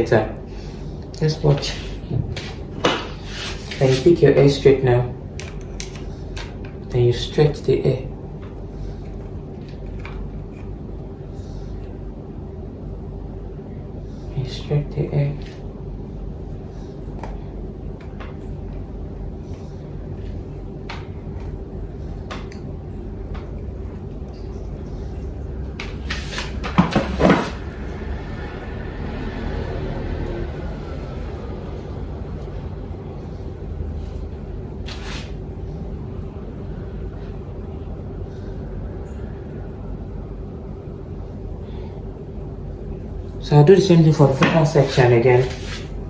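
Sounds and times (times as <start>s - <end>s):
steady low hum: 0.0s - 46.0s
low mechanical rumble: 4.7s - 46.0s.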